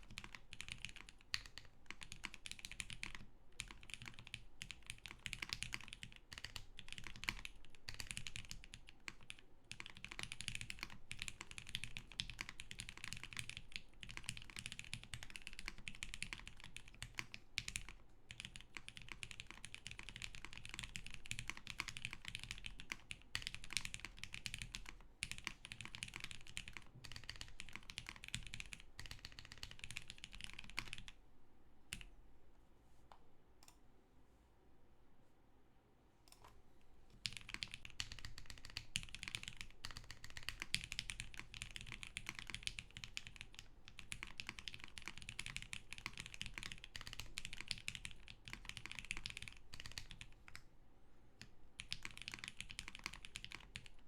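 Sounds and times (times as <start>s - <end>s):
typing on mechanical keyboard: 0.0s - 31.2s, 37.2s - 50.6s, 51.4s - 54.0s.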